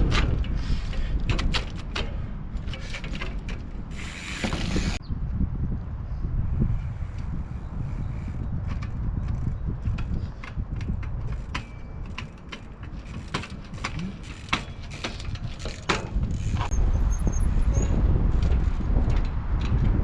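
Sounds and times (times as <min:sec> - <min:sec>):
bike clicks and knocks: 0:00.0 - 0:05.0, 0:07.1 - 0:20.0
wind buffeting microphone: 0:00.0 - 0:20.0.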